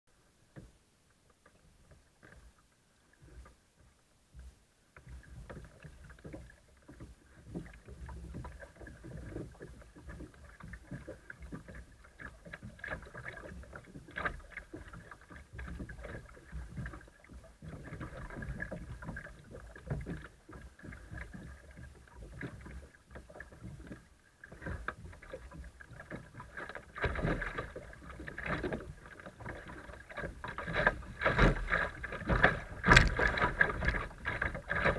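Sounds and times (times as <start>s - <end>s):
water sloshing against kayak hull: 0.5s - 34.9s.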